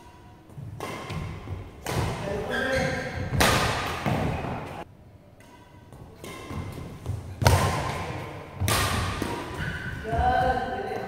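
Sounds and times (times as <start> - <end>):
racket hitting shuttlecock: 0.0 - 4.8, 5.4 - 11.0.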